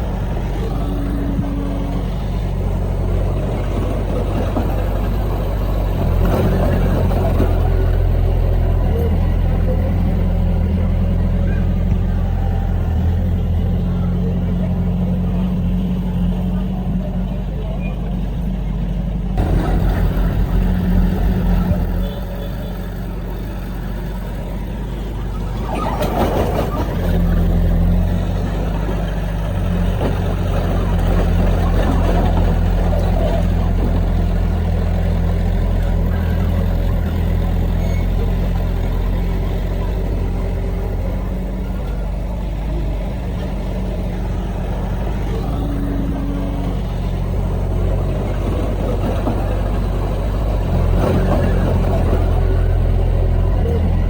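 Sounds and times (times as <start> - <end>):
earthmoving machine diesel engine: 0.0 - 54.0.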